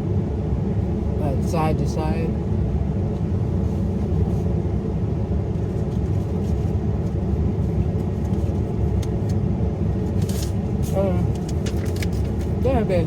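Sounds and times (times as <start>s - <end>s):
car heater rumble: 0.0s - 13.0s.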